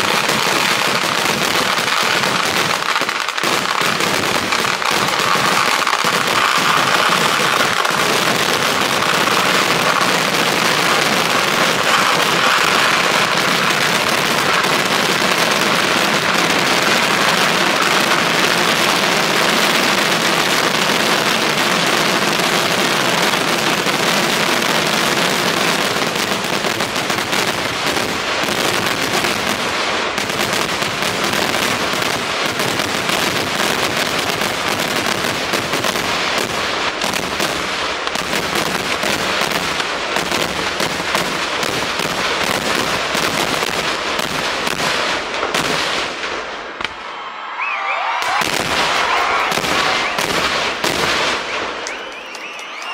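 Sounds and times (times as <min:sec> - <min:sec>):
firecracker barrage: 0:00.0 - 0:52.9.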